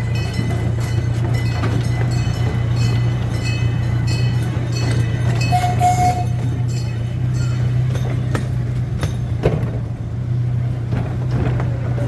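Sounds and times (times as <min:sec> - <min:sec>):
train drive droning: 0:00.0 - 0:12.0
wheels clicking on track: 0:00.0 - 0:12.0.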